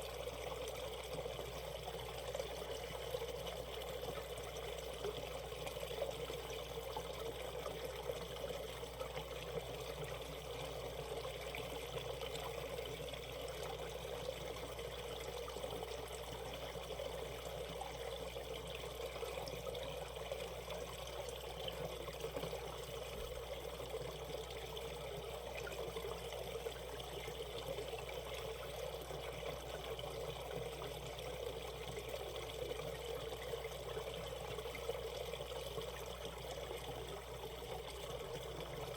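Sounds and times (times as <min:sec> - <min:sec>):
stream water trickling over rocks: 0:00.0 - 0:38.9.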